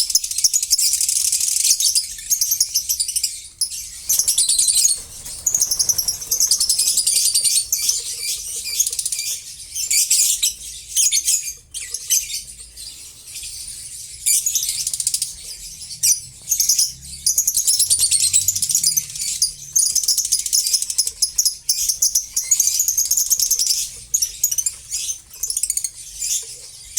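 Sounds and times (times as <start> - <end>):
lovebirds chirping and squeaking: 0.2 - 26.9.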